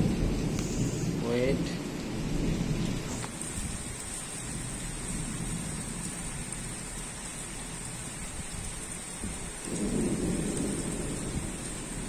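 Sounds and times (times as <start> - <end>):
heavy rain: 0.0 - 12.0
low thunder rumble: 0.0 - 12.0.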